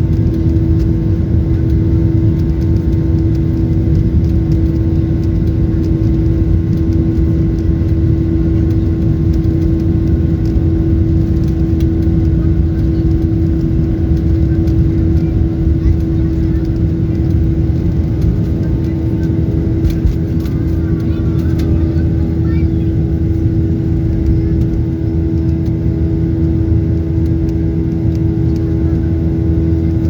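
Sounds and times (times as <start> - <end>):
airliner engine drone: 0.0 - 30.0.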